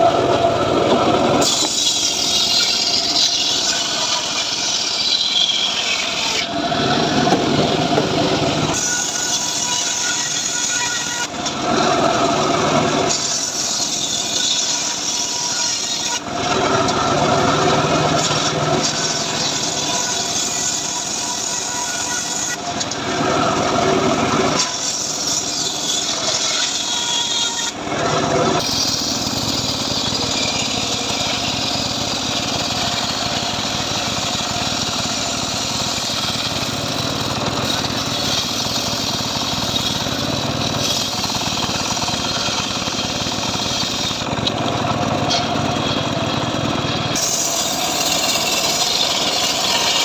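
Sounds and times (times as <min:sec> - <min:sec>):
engine-driven sawmill sawing logs: 0:00.0 - 0:50.0.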